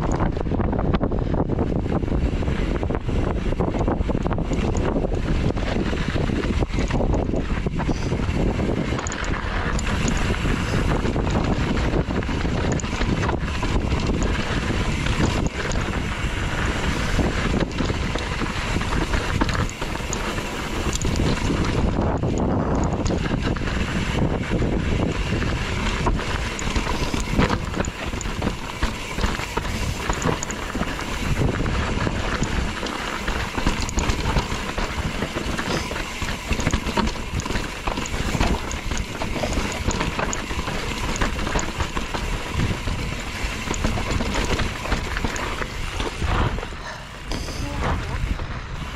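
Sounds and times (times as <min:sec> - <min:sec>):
bike knocks and rattles: 0:00.0 - 0:48.9
wind buffeting microphone: 0:00.0 - 0:48.9.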